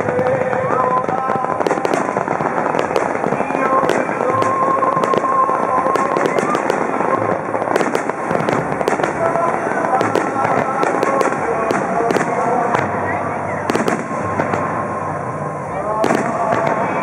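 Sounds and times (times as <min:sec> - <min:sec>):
fireworks pops and bangs: 0:00.0 - 0:14.9, 0:15.9 - 0:17.0
crackling fireworks stars: 0:00.0 - 0:17.0
music playing: 0:00.0 - 0:17.0.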